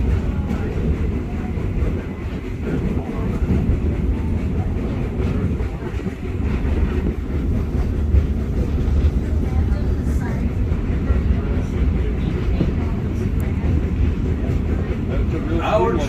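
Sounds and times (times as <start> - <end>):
train cars rumbling on rails: 0.0 - 16.0.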